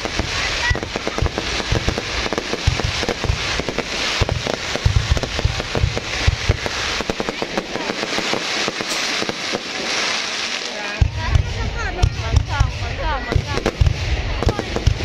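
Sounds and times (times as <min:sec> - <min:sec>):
deep firework booms: 0:00.0 - 0:15.0
fireworks crackling: 0:00.0 - 0:15.0.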